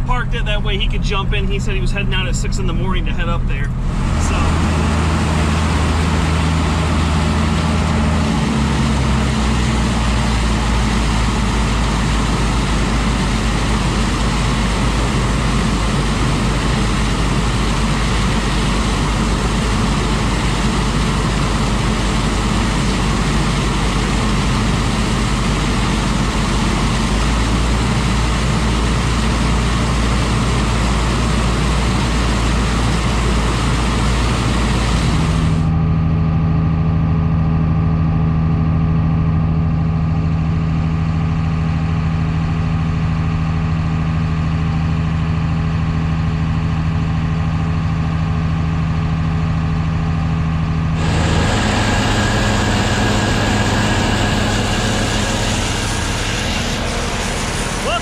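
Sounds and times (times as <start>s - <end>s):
combine engine and auger running: 0.0s - 35.9s, 40.4s - 58.0s
muffled tractor engine drone: 0.0s - 58.0s.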